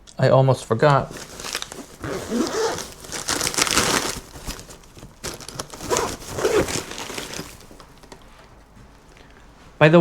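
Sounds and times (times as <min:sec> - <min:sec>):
plastic packaging rustling: 0:00.9 - 0:09.4.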